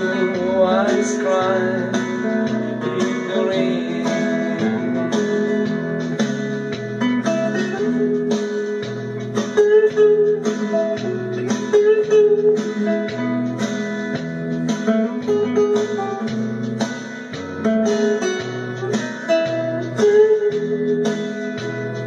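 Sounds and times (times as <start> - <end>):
plucked guitar melody: 0.0 - 22.0
strummed guitar chords: 0.0 - 22.0.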